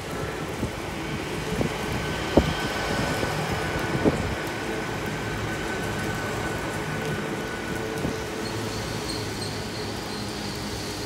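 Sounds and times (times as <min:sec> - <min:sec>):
train humming with high whine: 0:00.0 - 0:11.0.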